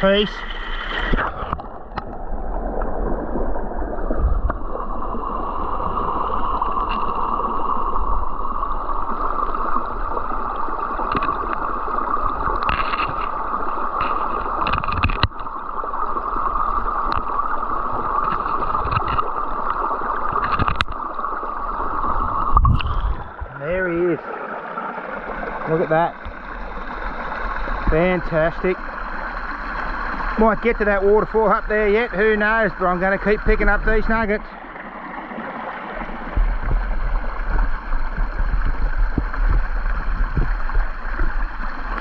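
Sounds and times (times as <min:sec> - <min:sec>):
creek water gurgling: 0:00.0 - 0:42.0.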